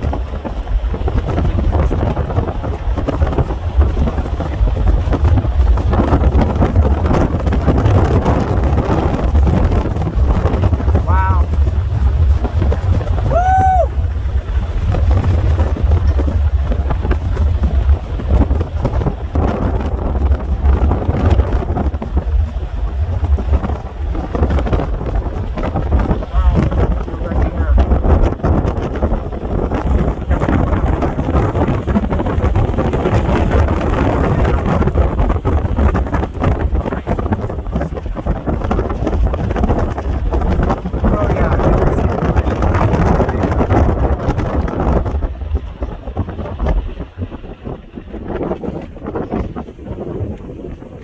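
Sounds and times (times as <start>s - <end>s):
gusty wind buffeting microphone: 0.0s - 51.0s.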